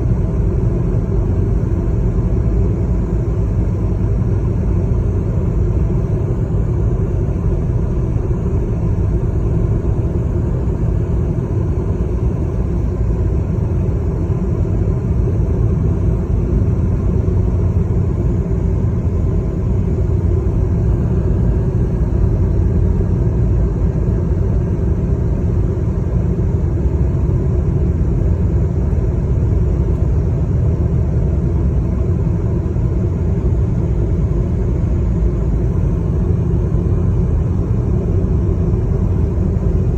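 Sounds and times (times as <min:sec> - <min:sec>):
road vehicle rumble: 0:00.0 - 0:39.9.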